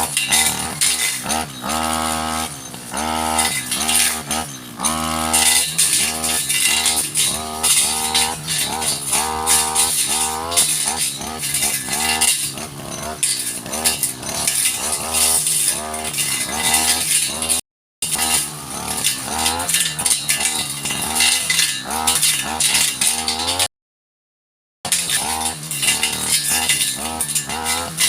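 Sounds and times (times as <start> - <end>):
brush cutter engine revving: 0.0 - 23.7, 24.9 - 28.0.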